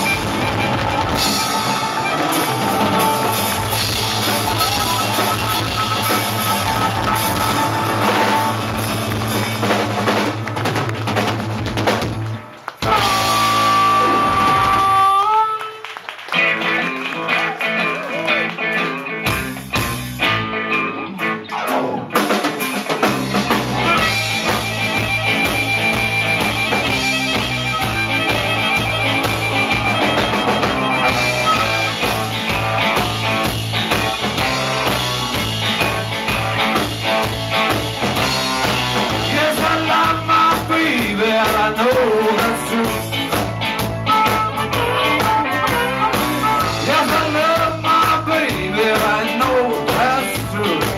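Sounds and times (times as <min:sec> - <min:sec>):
band playing blues-rock: 0:00.0 - 0:50.9
electric guitar: 0:00.0 - 0:50.9.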